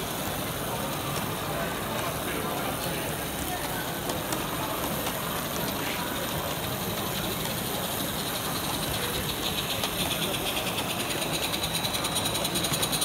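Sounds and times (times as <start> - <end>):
steam hissing: 0.0 - 13.0
steam locomotive chuffing: 0.0 - 13.0
wheels rolling on track: 0.0 - 13.0.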